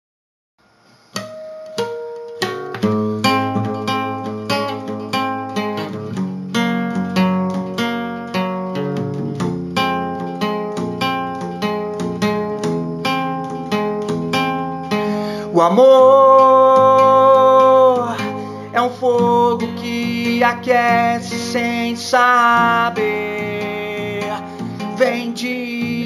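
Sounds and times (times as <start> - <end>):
acoustic guitar picking notes: 1.1 - 26.0.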